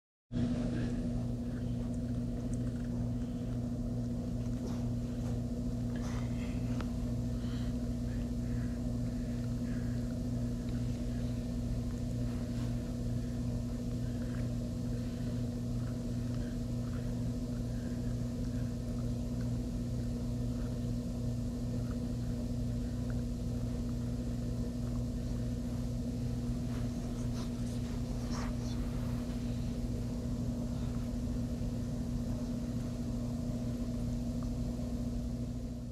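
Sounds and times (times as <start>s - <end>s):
motor humming: 0.4s - 35.9s
puppy gnawing carrot: 0.8s - 35.0s.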